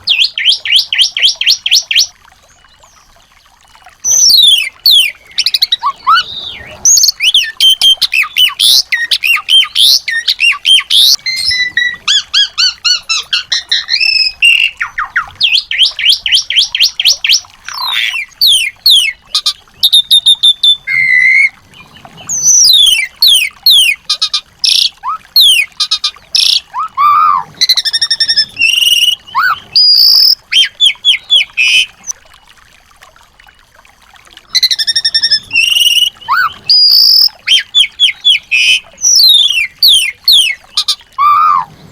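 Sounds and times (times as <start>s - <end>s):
songbirds singing: 0.0s - 32.5s, 34.5s - 41.7s.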